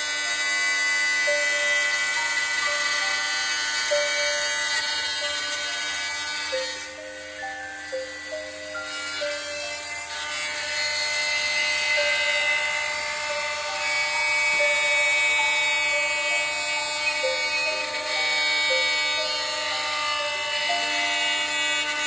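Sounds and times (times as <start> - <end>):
milling machine spindle whine: 0.0 - 22.0.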